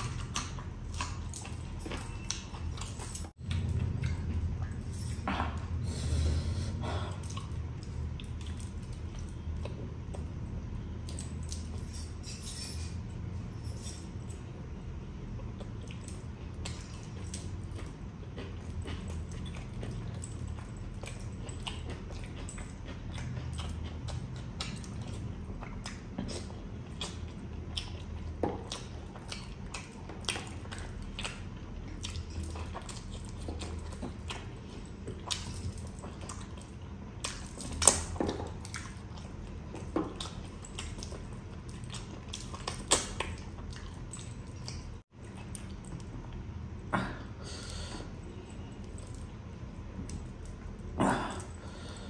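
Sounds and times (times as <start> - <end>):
wet chewing and lip-smacking: 0.0 - 5.8, 7.1 - 12.2, 14.1 - 51.9.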